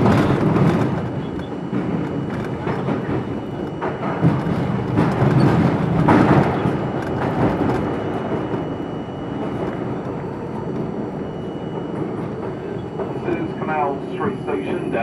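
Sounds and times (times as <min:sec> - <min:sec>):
subway train on rails: 0:00.0 - 0:15.0.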